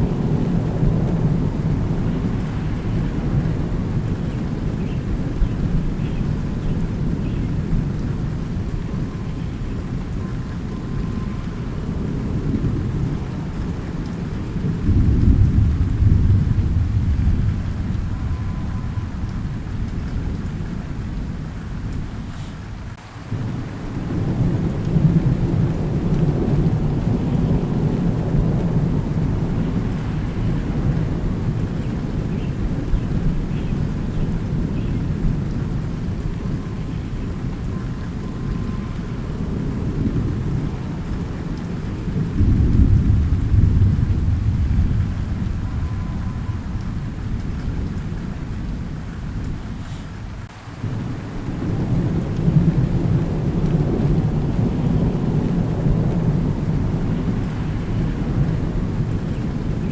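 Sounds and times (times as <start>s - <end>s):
low rolling thunder: 0.0s - 59.9s
steady rain falling: 0.0s - 59.9s.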